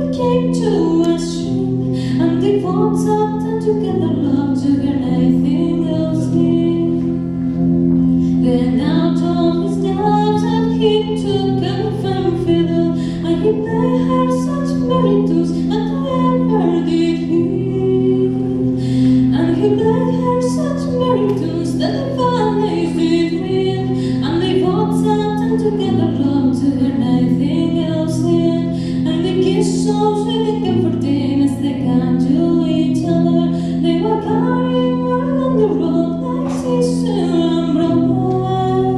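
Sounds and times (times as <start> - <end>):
held accompaniment chords: 0.0 - 38.9.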